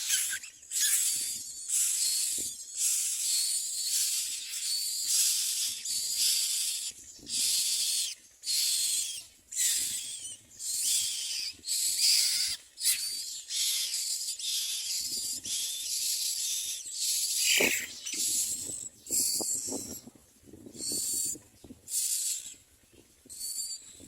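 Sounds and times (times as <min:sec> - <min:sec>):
nestlings hissing begging calls: 0:00.0 - 0:20.0, 0:20.8 - 0:22.6.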